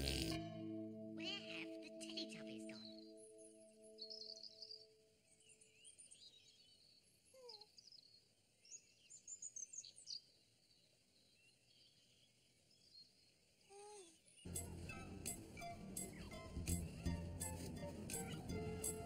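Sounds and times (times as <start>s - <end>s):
faint birdsong: 2.4s - 19.0s.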